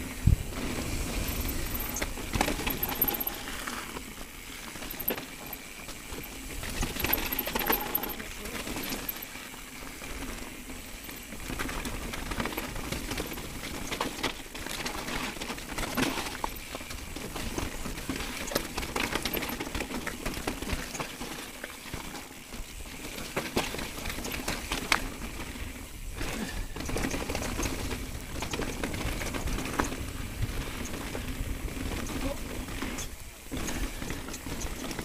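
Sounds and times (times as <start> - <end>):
bike rattling over rocks: 0.0 - 35.0
tyres crunching over loose stones: 0.5 - 35.0.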